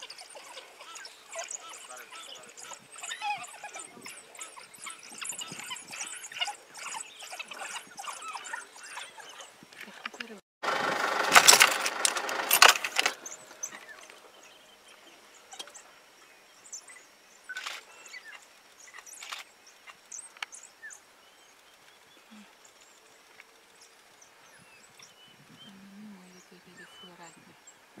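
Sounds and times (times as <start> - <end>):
wild dogs twittering high chirps: 0.0 - 10.4, 12.6 - 27.8.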